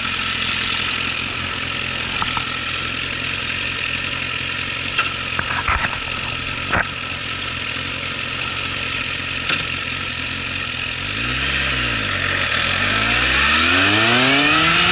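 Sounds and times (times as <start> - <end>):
motorcycle engine idling and revving: 0.0 - 14.9.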